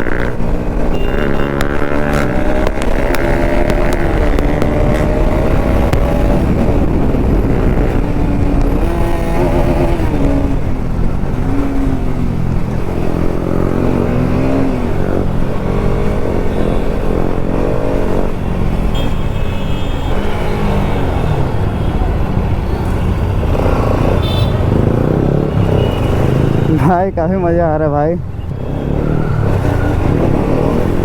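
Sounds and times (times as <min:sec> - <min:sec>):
motorcycle engine revving: 0:00.0 - 0:18.9, 0:20.1 - 0:26.9, 0:28.5 - 0:31.0.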